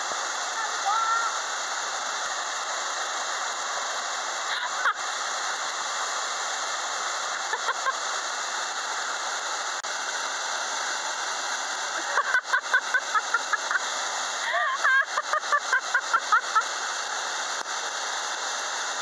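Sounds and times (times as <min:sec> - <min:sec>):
waterfall and rapids rushing: 0:00.0 - 0:19.0.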